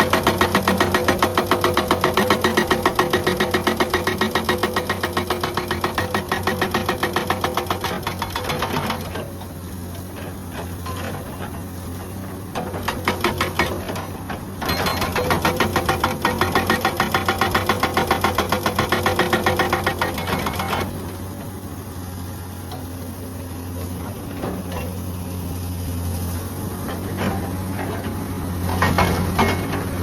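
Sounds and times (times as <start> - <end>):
hydraulic breaker hammering rock: 0.0 - 21.2, 26.8 - 30.0.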